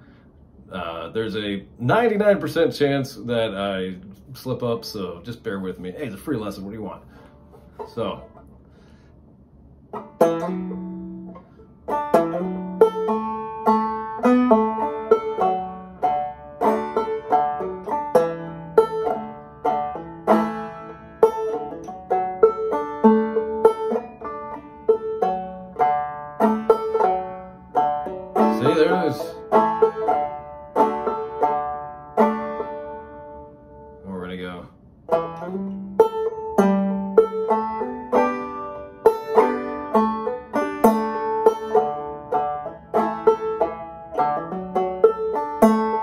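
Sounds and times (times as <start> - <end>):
banjo playing: 0.0 - 9.0, 9.6 - 46.0.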